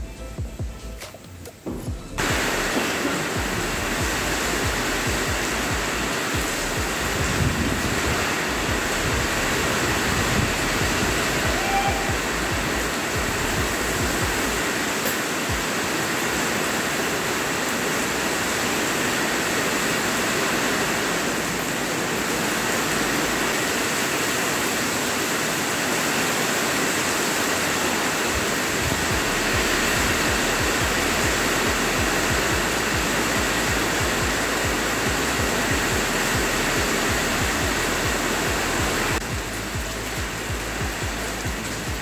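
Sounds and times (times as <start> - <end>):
steady rain falling: 2.0 - 42.0.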